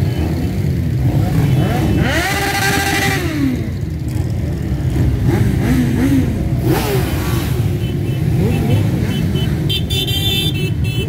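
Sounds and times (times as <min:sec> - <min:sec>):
motorcycle engines rumbling: 0:00.0 - 0:11.0
motorcycle revving: 0:00.0 - 0:11.0.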